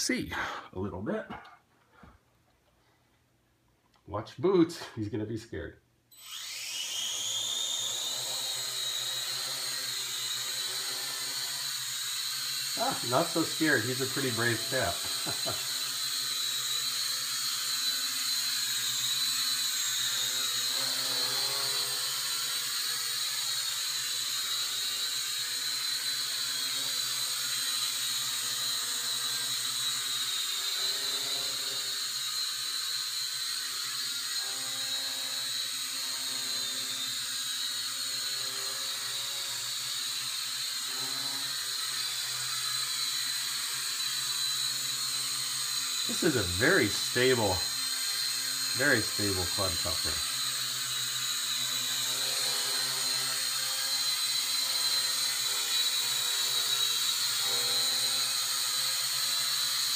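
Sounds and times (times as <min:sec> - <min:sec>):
toy drone hovering whine: 0:06.1 - 0:59.9.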